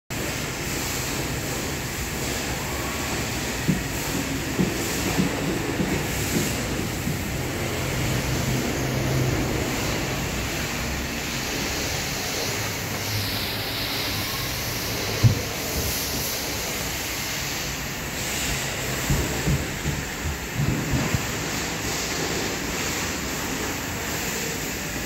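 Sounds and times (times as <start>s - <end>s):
mechanical rumble and hiss: 0.1s - 25.0s.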